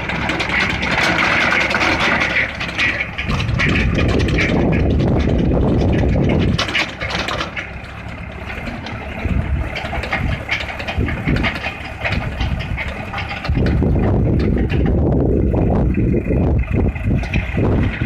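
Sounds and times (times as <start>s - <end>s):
deep engine rumble: 0.0s - 18.0s
mechanical clatter and knocks: 0.0s - 18.0s
tractor engine running: 0.0s - 18.0s.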